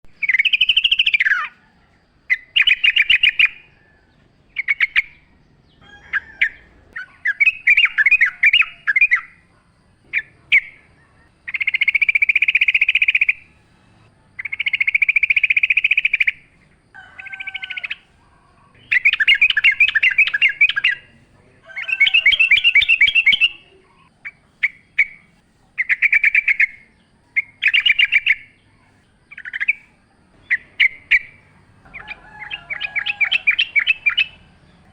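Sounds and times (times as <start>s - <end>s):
bird chattering song: 0.1s - 34.9s.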